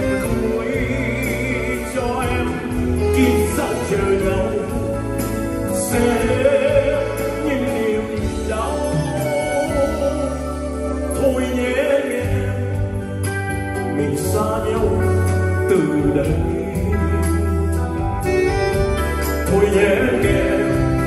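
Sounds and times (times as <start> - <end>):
live band playing a slow ballad: 0.0 - 21.0
man singing: 0.0 - 21.0.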